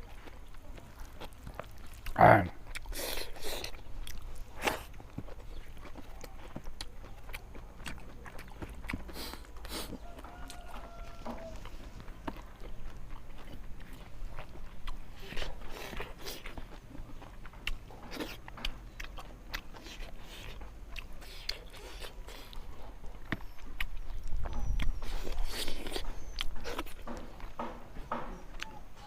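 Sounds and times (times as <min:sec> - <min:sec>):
crunch or scrape: 0:00.0 - 0:23.0, 0:24.3 - 0:27.4
person chewing: 0:00.0 - 0:29.0.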